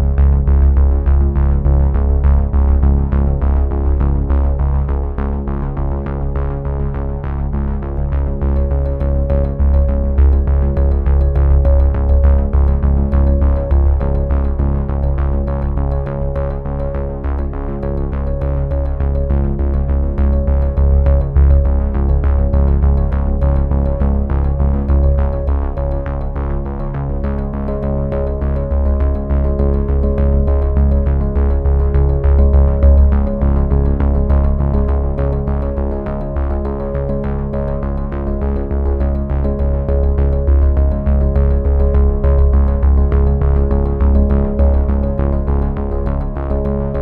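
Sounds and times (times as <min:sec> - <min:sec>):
synthesizer music with bass beat: 0:00.0 - 0:47.0.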